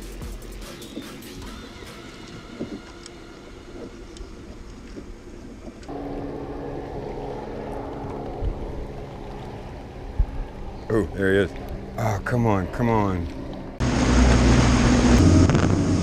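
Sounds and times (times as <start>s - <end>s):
electric boat motor humming: 0.1s - 12.0s, 12.6s - 16.0s.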